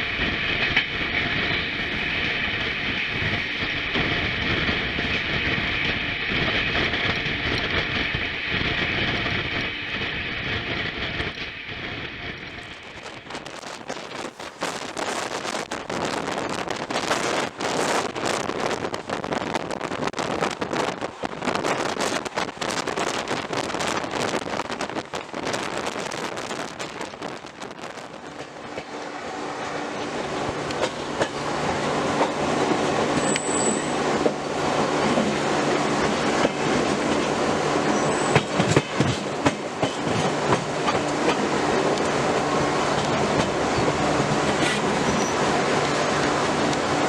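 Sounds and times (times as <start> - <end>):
passenger train on rails: 0.0 - 47.0.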